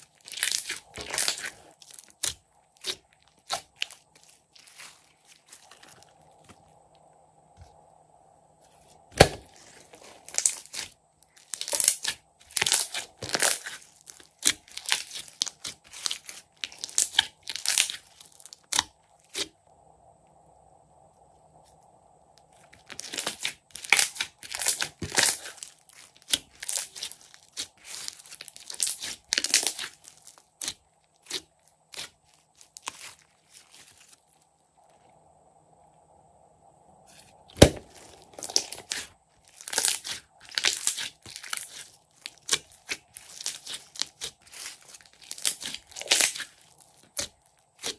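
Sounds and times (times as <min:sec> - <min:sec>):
slime crackling and popping: 0:00.0 - 0:06.6, 0:09.1 - 0:19.5, 0:22.4 - 0:34.3, 0:37.6 - 0:47.9.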